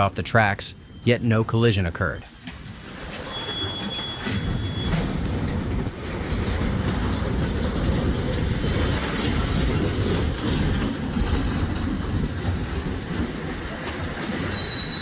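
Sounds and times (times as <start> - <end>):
train rumbling over rails: 0.0 - 15.0.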